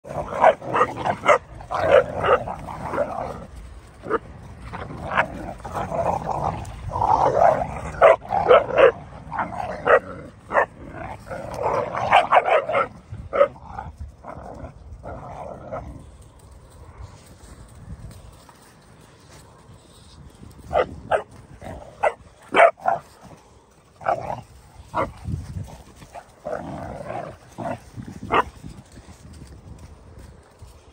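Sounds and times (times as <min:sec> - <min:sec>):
puppies growling and barking: 0:00.0 - 0:17.4, 0:20.5 - 0:29.5.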